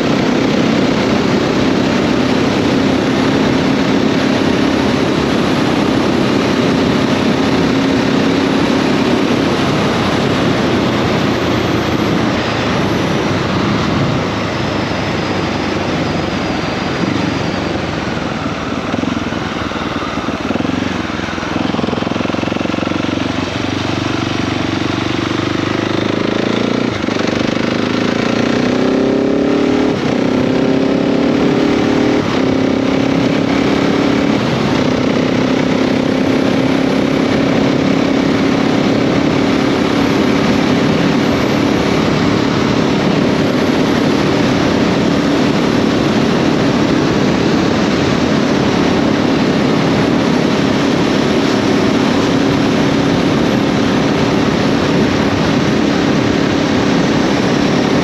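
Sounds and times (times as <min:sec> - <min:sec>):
motorcycle engine accelerating: 0:00.0 - 0:58.0
wind noise: 0:00.0 - 0:58.0.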